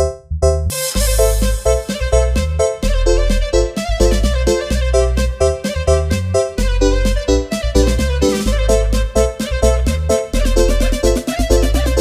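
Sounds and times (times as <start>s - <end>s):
upbeat electronic keyboard music: 0.0s - 12.0s.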